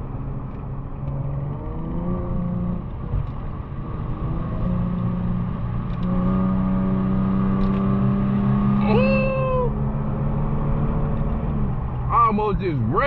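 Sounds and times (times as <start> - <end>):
car exhaust accelerating: 0.0 - 13.0.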